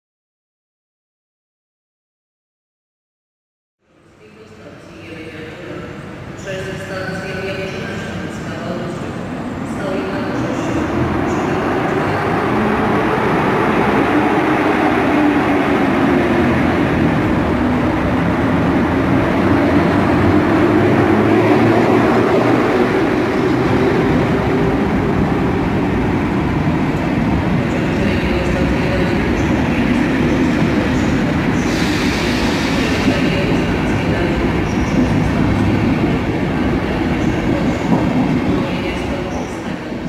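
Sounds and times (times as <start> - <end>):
train wheels rumbling on rails: 7.8 - 40.0.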